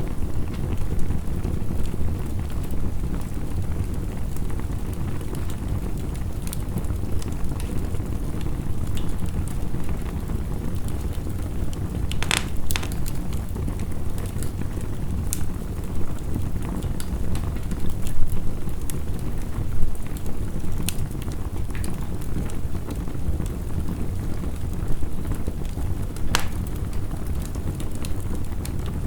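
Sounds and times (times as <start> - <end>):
heavy rain rumbling: 0.0 - 29.0
wood fire crackling and popping: 0.0 - 29.0.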